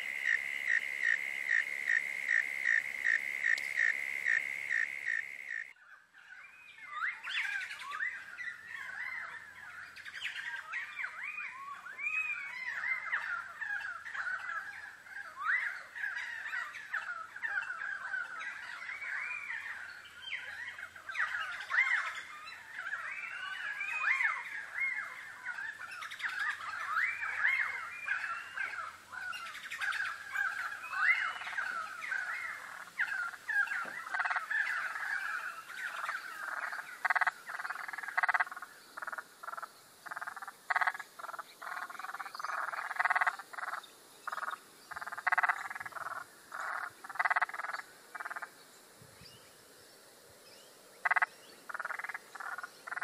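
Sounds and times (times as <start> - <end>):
frogs croaking: 0.0 - 6.1, 7.0 - 53.0.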